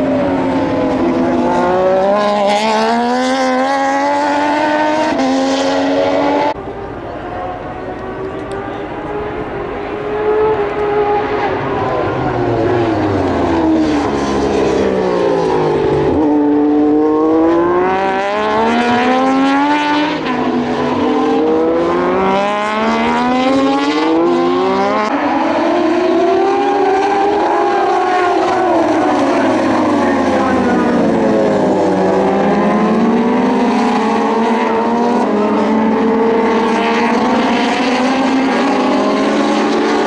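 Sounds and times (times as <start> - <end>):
race motorcycles passing: 0.0 - 40.0.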